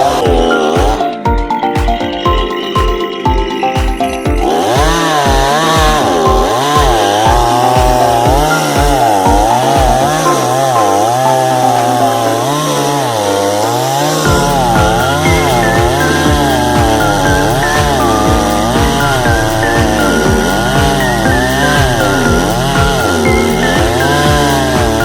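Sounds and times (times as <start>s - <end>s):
music with a steady beat: 0.0s - 25.0s
chainsaw sawing through wood: 4.4s - 25.0s.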